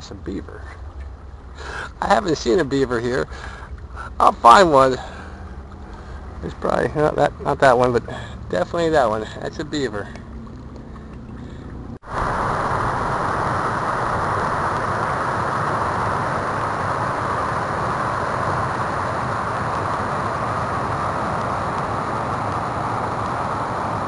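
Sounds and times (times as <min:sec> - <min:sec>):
water rushing over weir: 0:00.0 - 0:24.0.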